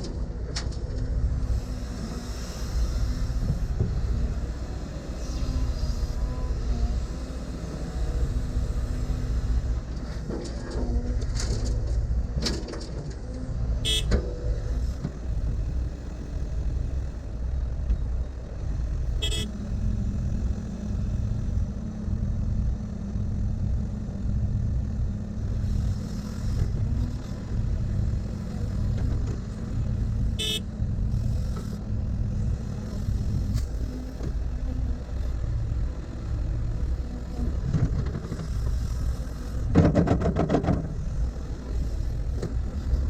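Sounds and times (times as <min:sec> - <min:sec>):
diesel machine engine rumble: 0:00.0 - 0:43.0.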